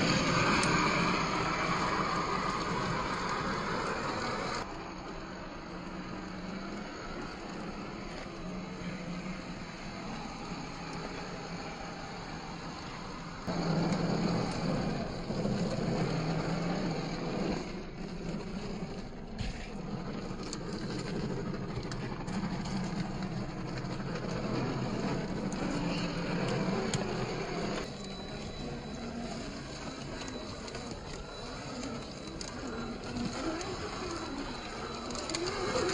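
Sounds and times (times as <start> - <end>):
electric motor humming: 0.0 - 35.9
small drivetrain clicks: 0.0 - 35.9.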